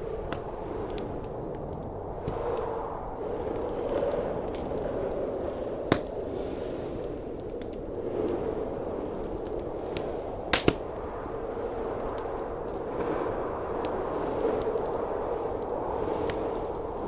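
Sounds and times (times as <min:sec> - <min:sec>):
blizzard wind rushing: 0:00.0 - 0:17.0
fire popping: 0:00.0 - 0:17.0
wood fire crackling: 0:00.0 - 0:17.0.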